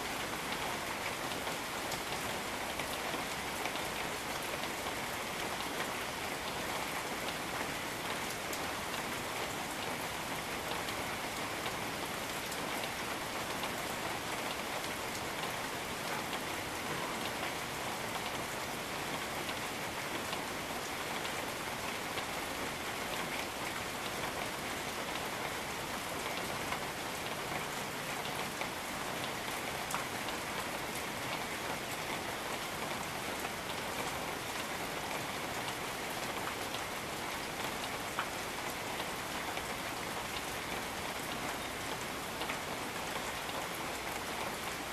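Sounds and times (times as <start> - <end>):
rain hissing on foliage: 0.0 - 44.9.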